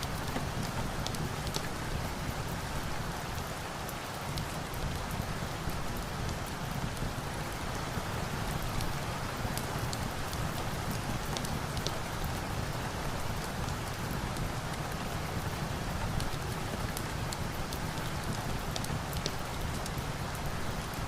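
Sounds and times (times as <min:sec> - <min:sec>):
crackling log fire: 0:00.0 - 0:21.0
steady rain: 0:00.0 - 0:21.0.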